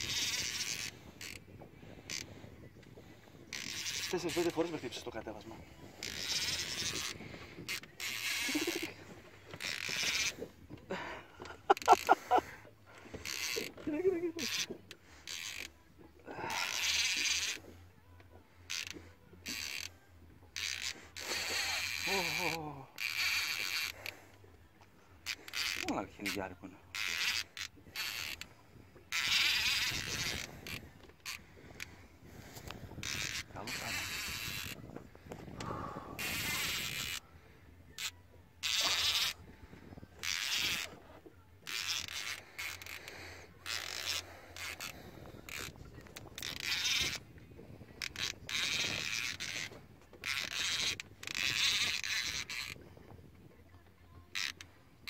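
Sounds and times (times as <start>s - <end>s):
fishing reel whirring and ratcheting: 0.0s - 55.0s.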